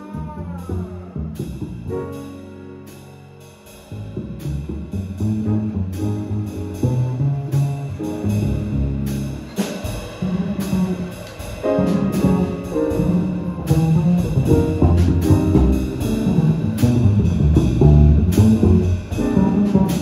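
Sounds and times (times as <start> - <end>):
jazz big band playing: 0.0 - 20.0.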